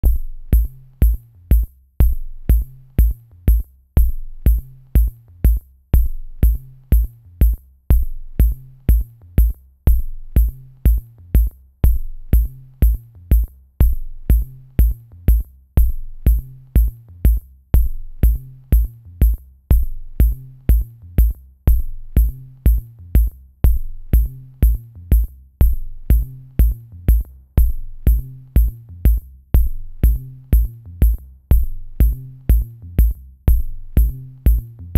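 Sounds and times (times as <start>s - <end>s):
deep kick drum: 0.0s - 34.9s.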